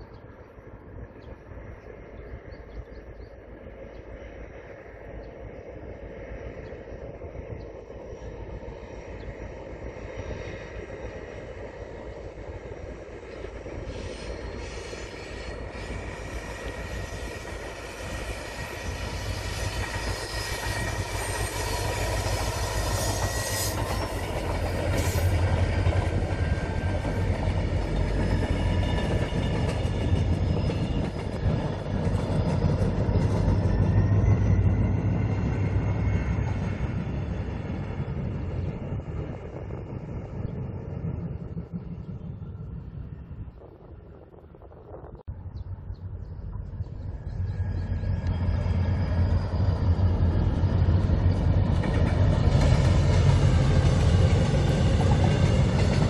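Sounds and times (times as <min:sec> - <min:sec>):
train wheel noise: 0:00.0 - 0:45.2, 0:46.4 - 0:56.0
diesel locomotive engine rumble: 0:00.0 - 0:56.0.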